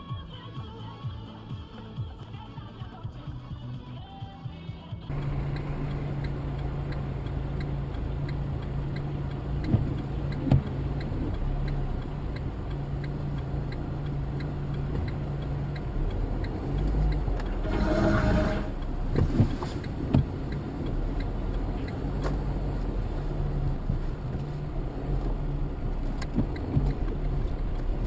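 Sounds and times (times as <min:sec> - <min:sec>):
engine and road hum: 0:05.0 - 0:28.0
regular ticking: 0:05.1 - 0:28.0.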